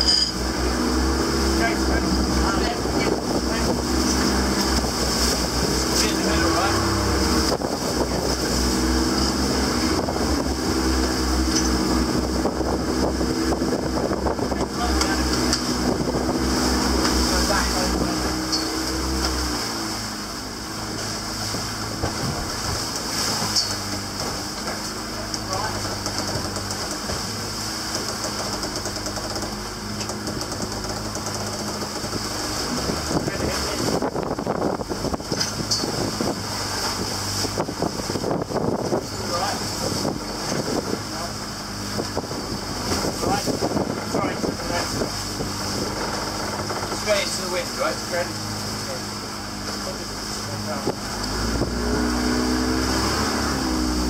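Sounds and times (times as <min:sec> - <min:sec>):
boat engine droning: 0:00.0 - 0:54.0
rough water hissing: 0:00.0 - 0:54.0
wind buffeting microphone: 0:00.4 - 0:24.5, 0:29.6 - 0:54.0.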